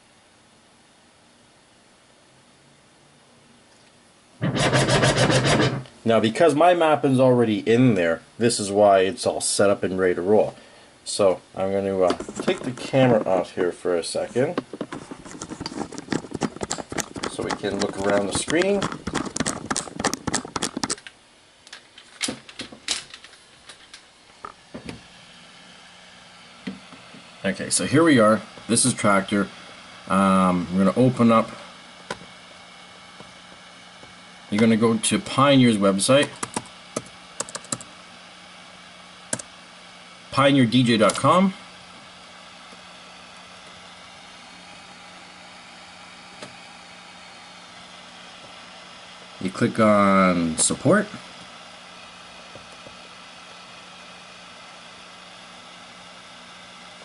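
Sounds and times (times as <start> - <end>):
low electrical hum: 0.0 - 57.0
room hiss: 0.0 - 57.0.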